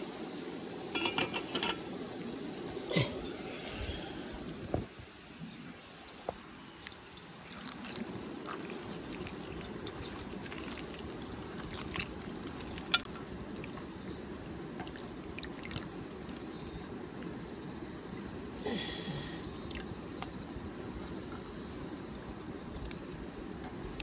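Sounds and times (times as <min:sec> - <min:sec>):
flowing river water: 0:01.0 - 0:21.6.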